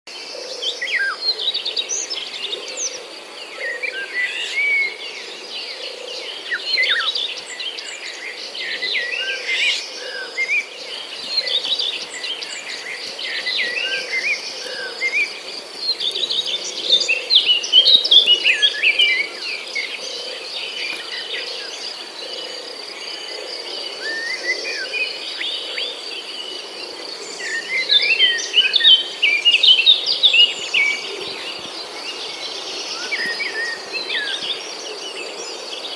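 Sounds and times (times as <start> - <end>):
birds chirping and singing: 0.3 - 35.9.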